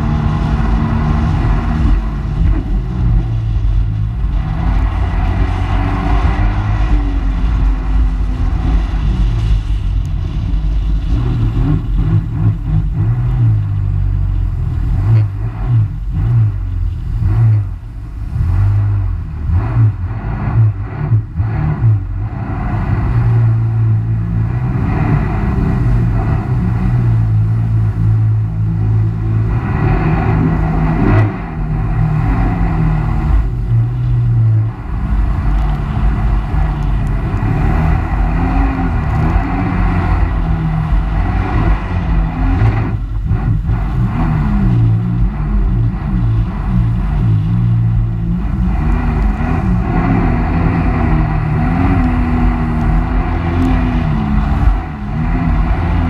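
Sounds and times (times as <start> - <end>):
water rushing against hull: 0.0 - 56.0
watercraft engine running: 0.0 - 56.0.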